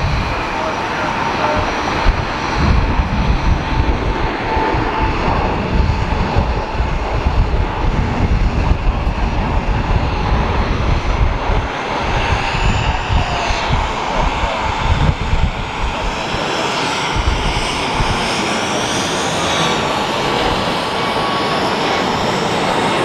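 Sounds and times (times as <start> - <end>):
jet airliner taking off: 0.0 - 23.0.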